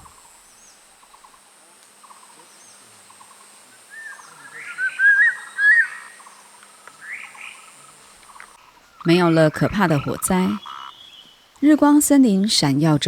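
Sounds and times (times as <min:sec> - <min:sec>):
birds chirping: 0:00.0 - 0:13.0
faint forest background: 0:00.0 - 0:13.0
bird warbling song: 0:02.0 - 0:12.6.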